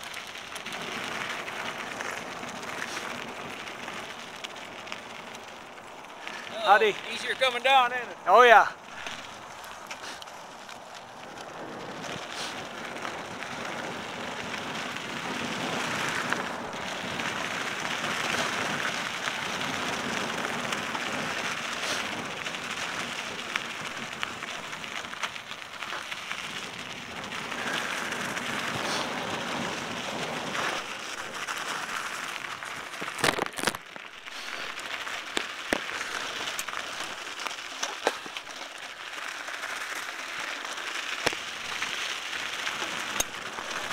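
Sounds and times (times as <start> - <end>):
bike clicks and rattles: 0.0 - 43.9
bike tyres crackling over dirt: 0.0 - 43.9.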